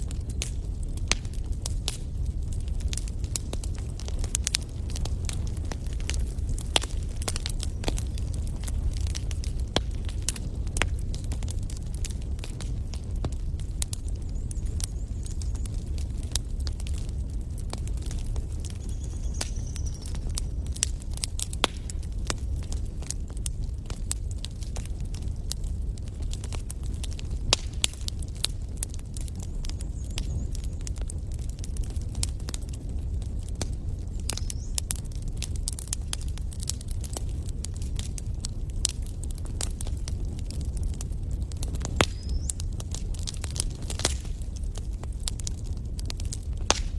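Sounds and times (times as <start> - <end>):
campfire crackling and popping: 0.0 - 46.9
steady low rumble: 0.0 - 46.9.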